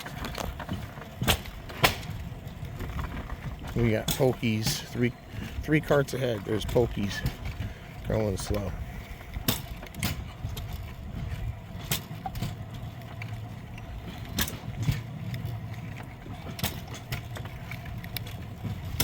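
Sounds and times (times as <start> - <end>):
steel wheels rolling on track: 0.0 - 19.0.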